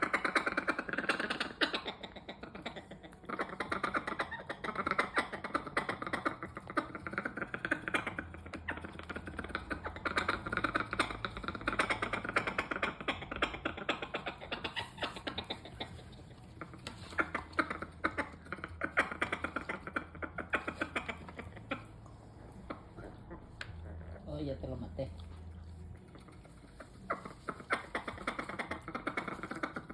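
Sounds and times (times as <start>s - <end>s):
parrot clicking and popping: 0.0s - 24.0s, 25.8s - 29.9s.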